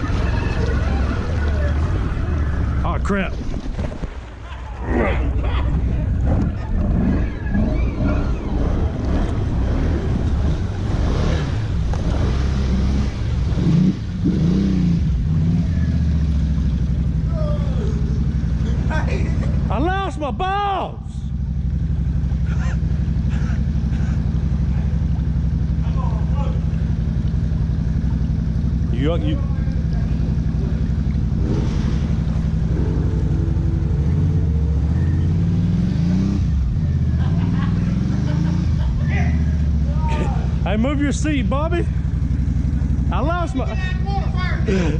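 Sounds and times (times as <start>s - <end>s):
atv engine revving: 0.0s - 3.3s, 4.8s - 20.6s, 21.2s - 44.9s.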